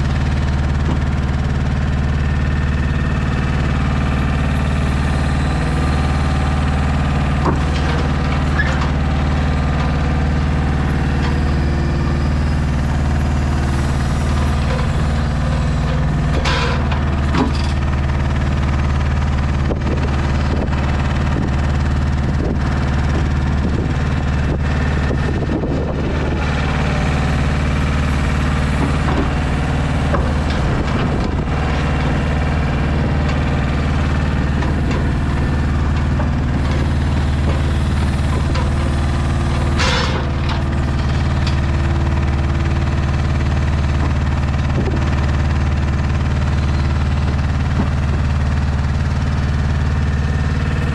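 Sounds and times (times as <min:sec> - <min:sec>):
crane knocks and clanks: 0:00.0 - 0:50.9
truck diesel engine running: 0:00.0 - 0:50.9.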